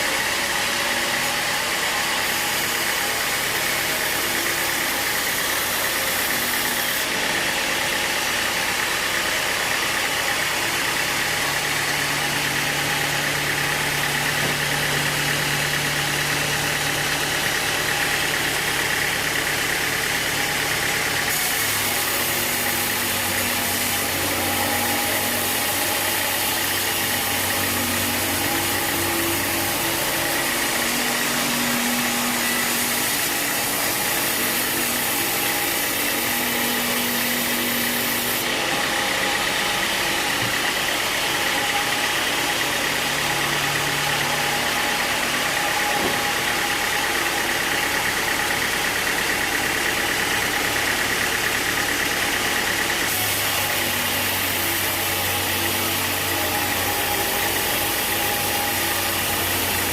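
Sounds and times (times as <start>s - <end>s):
constant machinery noise: 0.0s - 59.9s
engine hum: 0.0s - 59.9s.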